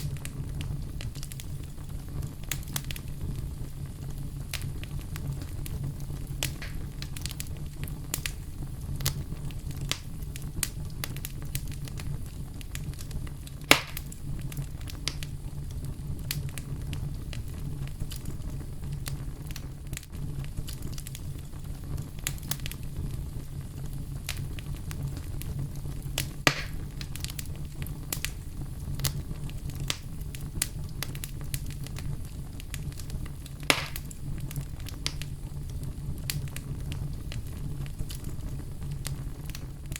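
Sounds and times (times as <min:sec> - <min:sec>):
campfire flames rumbling: 0:00.0 - 0:39.9
fire crackling: 0:00.0 - 0:39.9
sharp fire pops: 0:00.0 - 0:39.9.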